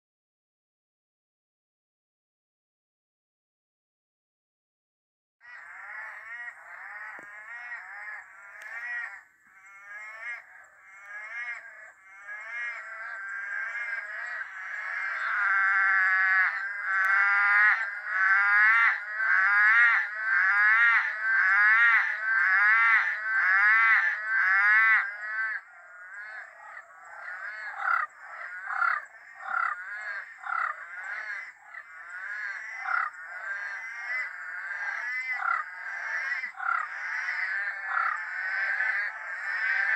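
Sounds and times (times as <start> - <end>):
chorus of frogs calling: 5.4 - 39.9.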